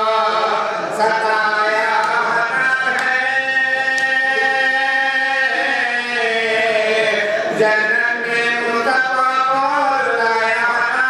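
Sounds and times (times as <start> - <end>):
man chanting a lament: 0.0 - 11.0.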